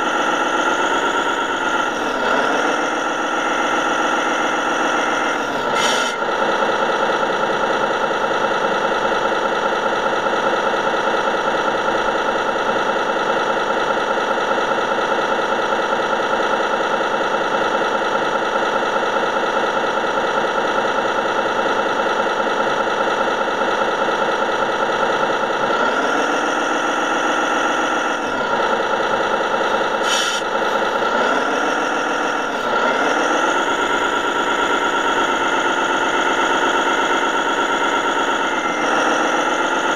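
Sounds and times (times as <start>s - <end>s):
simulated truck engine idling: 0.0s - 39.9s.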